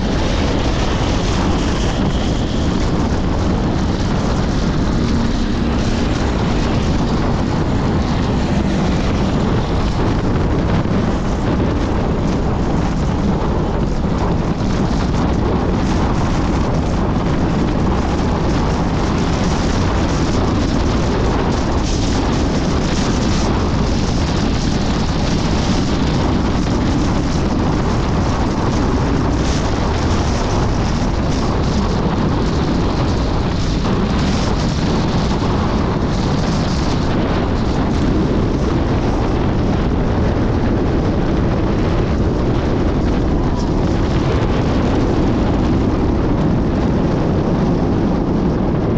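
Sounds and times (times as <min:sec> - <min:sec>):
road and wind noise inside vehicle: 0:00.0 - 0:48.9.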